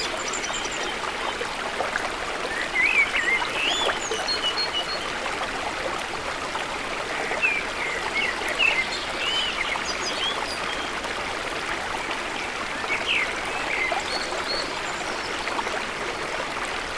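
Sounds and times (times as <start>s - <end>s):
stream water running: 0.0s - 16.9s.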